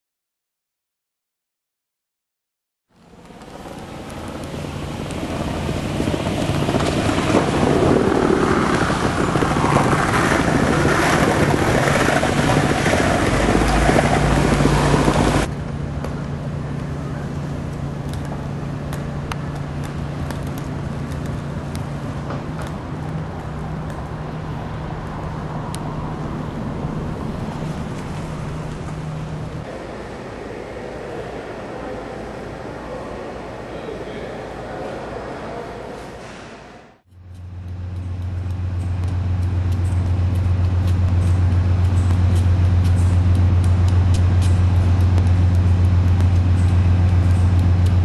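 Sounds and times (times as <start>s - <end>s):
train rumble and hum: 3.1s - 36.7s, 37.3s - 48.0s.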